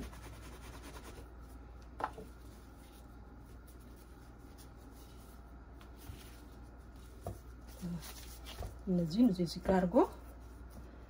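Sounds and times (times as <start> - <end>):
gloved hands rubbing dough: 0.0 - 1.7, 2.3 - 8.9, 9.8 - 11.0
low steady hum: 0.0 - 11.0.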